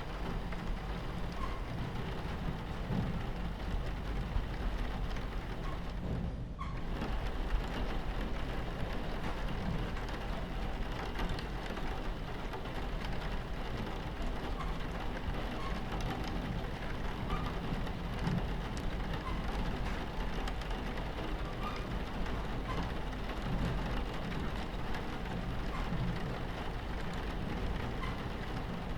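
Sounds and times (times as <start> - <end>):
rain on a train window: 0.0 - 28.9
train rumbling on tracks: 0.0 - 28.9.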